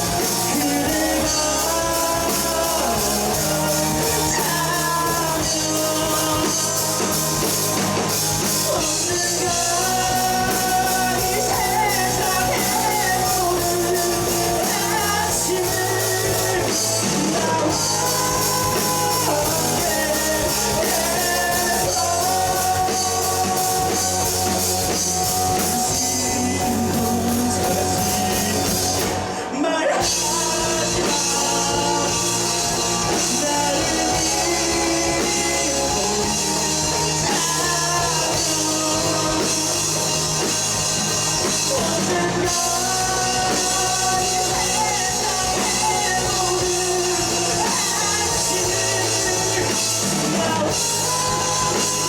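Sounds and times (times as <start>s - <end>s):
bass guitar: 0.0s - 52.0s
drum kit: 0.0s - 52.0s
electric guitars: 0.0s - 52.0s.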